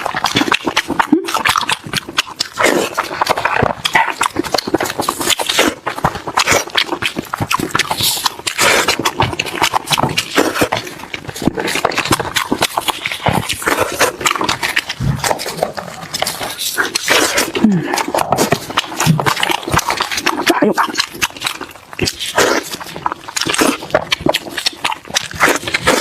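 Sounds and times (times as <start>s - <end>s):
mouth clicks: 0.0s - 26.0s
wet chewing and lip-smacking: 0.0s - 26.0s.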